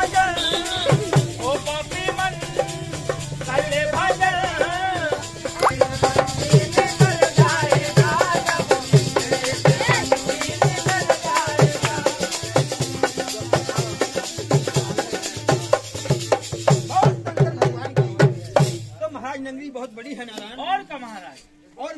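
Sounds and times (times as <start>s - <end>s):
rattling percussion: 0.0s - 18.9s
steady drum beat: 0.0s - 19.0s.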